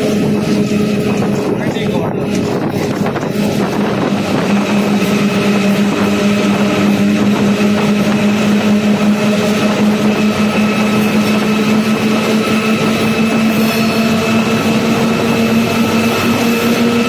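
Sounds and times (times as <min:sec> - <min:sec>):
locomotive engine drone: 0:00.0 - 0:17.0
train rumbling: 0:00.0 - 0:17.0.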